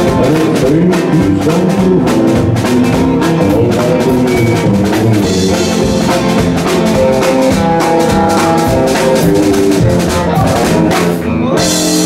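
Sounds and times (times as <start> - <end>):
drum kit strikes: 0.0 - 12.0
electric guitars: 0.0 - 12.0.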